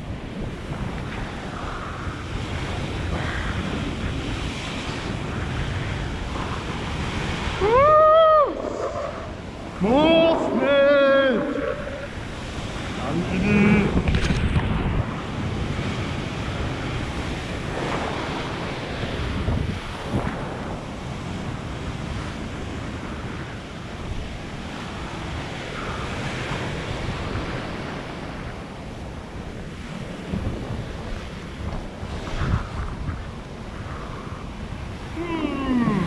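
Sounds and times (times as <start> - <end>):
heavy surf breaking on rocks: 0.0 - 36.0
wind buffeting microphone: 0.0 - 36.0.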